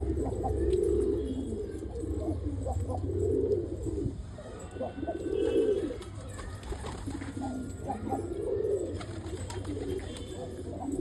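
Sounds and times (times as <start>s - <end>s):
pigeons cooing: 0.0s - 6.2s, 6.8s - 11.0s.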